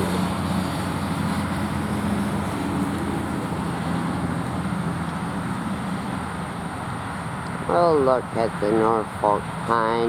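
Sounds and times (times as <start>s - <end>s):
low engine hum: 0.0s - 10.0s
road traffic: 0.0s - 10.0s.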